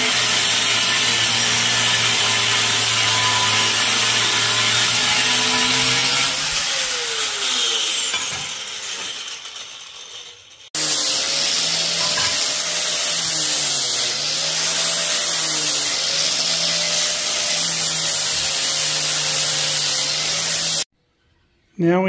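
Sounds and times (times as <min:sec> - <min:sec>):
angle grinder cutting sheet metal: 0:00.0 - 0:20.9.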